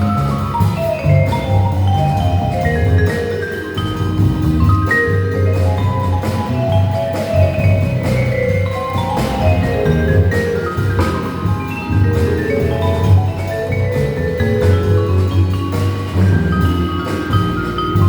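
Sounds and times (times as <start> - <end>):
bass line: 0.0 - 18.0
drums with cymbals: 0.0 - 18.0
vibraphone: 0.0 - 18.0.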